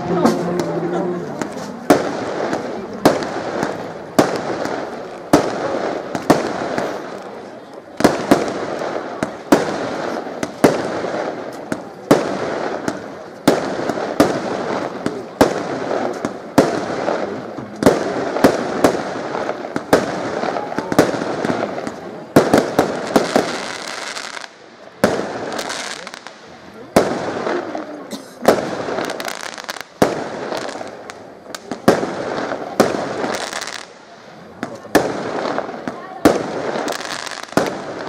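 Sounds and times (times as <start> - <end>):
fireworks bursting with crackling: 0.0 - 38.0.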